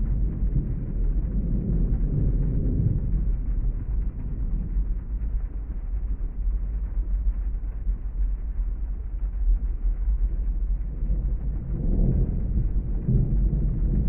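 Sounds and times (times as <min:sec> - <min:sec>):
deep rumble inside car: 0:00.0 - 0:14.0
muffled rain hiss: 0:00.0 - 0:14.0.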